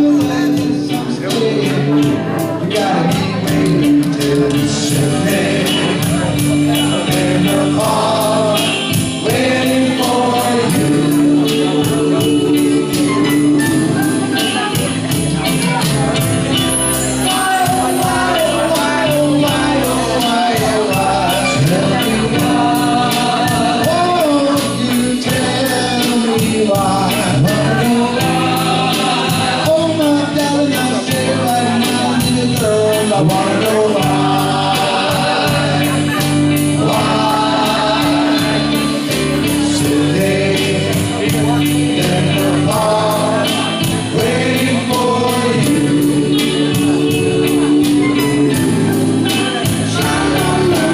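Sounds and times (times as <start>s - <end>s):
steady bass line: 0.0s - 50.9s
sustained singing vocals: 0.0s - 50.9s.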